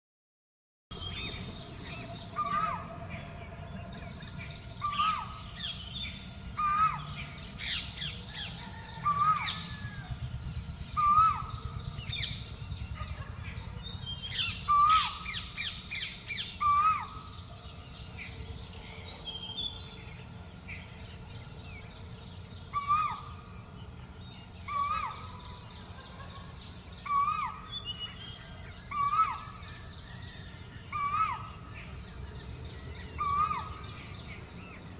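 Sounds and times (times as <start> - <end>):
small birds chirping: 0.9 - 34.9.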